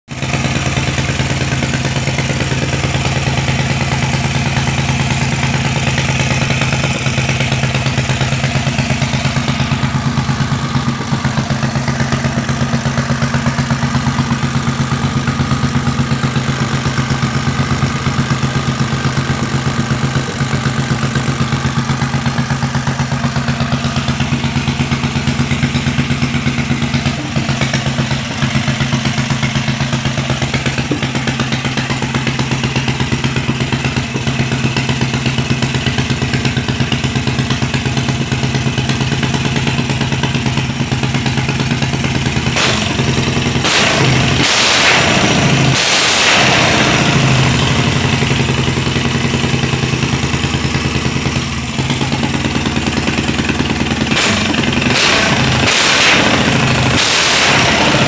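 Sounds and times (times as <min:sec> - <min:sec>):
single-cylinder engine running steadily: 0:00.1 - 0:58.0.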